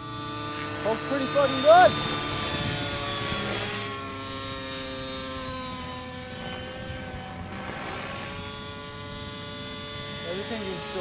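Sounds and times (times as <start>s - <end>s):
model helicopter engine whine: 0.0s - 11.0s.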